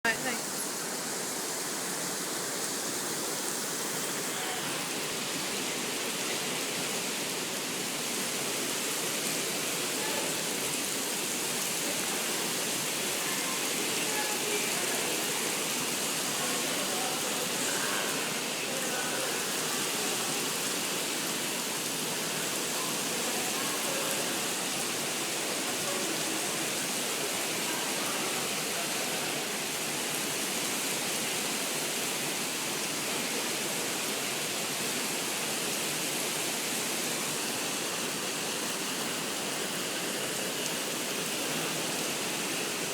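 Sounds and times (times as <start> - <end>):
artificial rain pouring down: 0.0 - 42.9.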